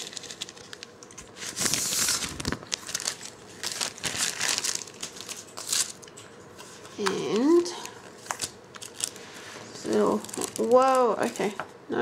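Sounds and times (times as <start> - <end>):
plastic pouch crinkling: 0.0 - 6.1, 6.9 - 11.5.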